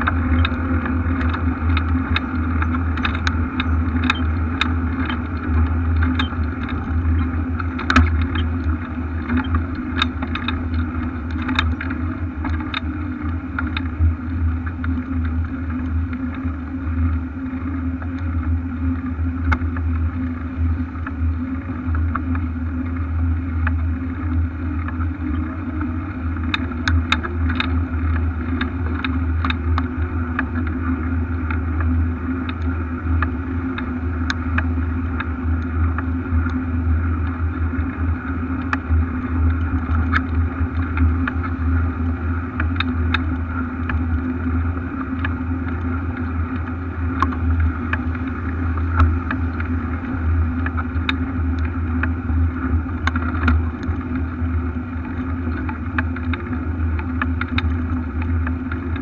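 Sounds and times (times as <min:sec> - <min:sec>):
bicycle rumbling on brick paving: 0:00.0 - 0:59.0
bike clicks and rattles: 0:00.0 - 0:59.0.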